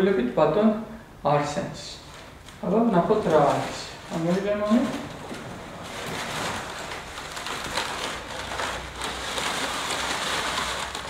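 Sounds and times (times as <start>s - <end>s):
metallic gift wrap crinkling: 2.0s - 11.0s.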